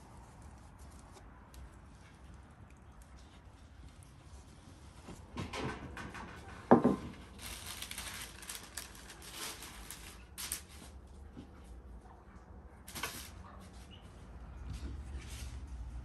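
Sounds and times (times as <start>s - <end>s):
baking paper rustling: 0.0s - 11.9s, 12.8s - 16.0s.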